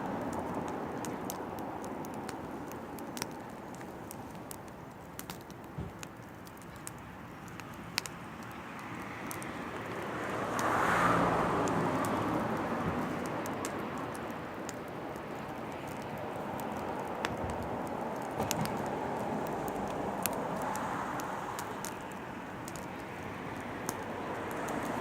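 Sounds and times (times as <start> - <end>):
broad rush of noise: 0.0 - 25.0
firewood crackling and popping: 0.0 - 25.0
steady hiss of fire: 0.0 - 25.0.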